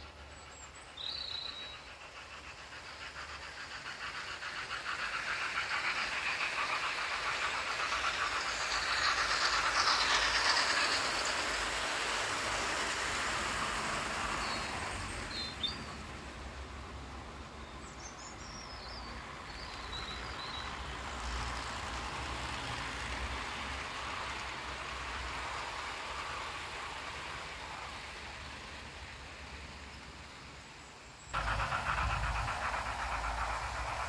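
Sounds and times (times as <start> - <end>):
model train rolling on track: 0.0 - 34.0.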